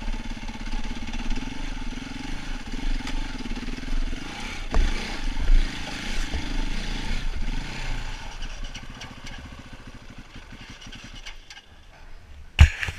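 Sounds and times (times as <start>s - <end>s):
dirt bike engine running: 0.0s - 11.3s.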